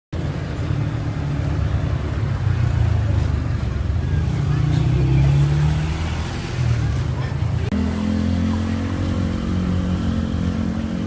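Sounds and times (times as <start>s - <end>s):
vehicle engine rumbling: 0.1s - 11.0s.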